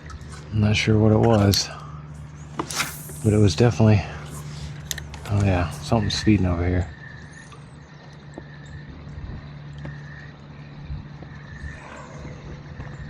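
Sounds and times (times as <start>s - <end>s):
motor humming: 1.4s - 13.0s.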